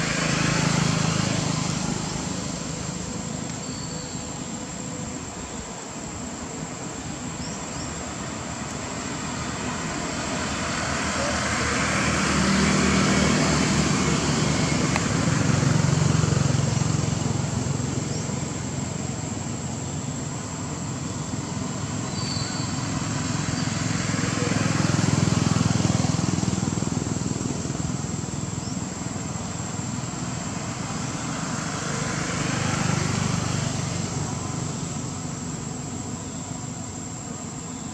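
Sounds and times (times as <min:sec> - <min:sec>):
vehicles passing on road: 0:00.0 - 0:37.9.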